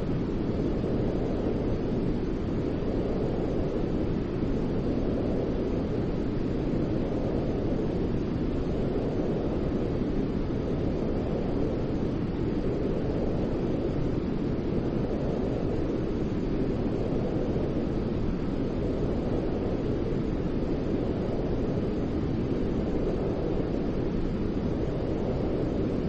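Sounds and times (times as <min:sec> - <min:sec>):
deep white noise: 0:00.0 - 0:26.0.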